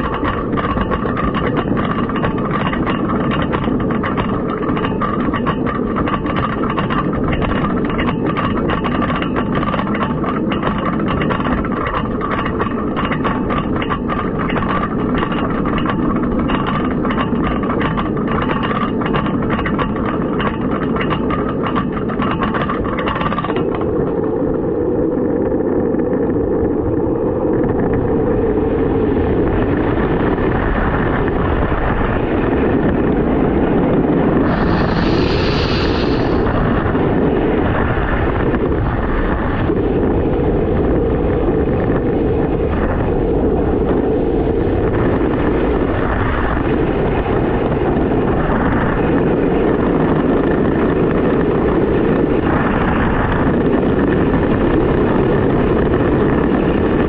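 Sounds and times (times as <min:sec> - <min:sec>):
roller coaster lift clacking: 0:00.0 - 0:57.0
roller coaster wheels rumbling: 0:00.0 - 0:57.0
rushing wind: 0:00.0 - 0:57.0.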